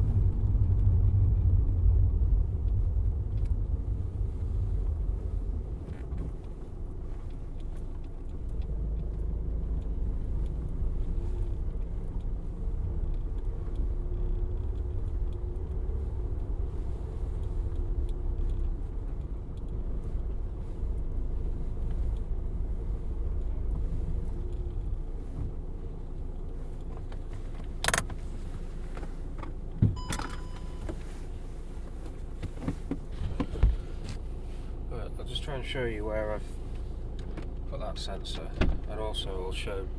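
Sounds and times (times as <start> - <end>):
diesel engine rumble in cabin: 0.0 - 39.9.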